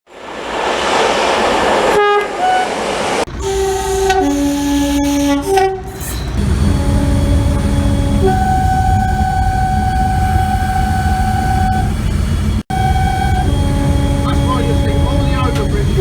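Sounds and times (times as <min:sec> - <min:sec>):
passing train rushing: 0:00.0 - 0:16.0
train horn: 0:01.9 - 0:12.0, 0:12.7 - 0:16.0.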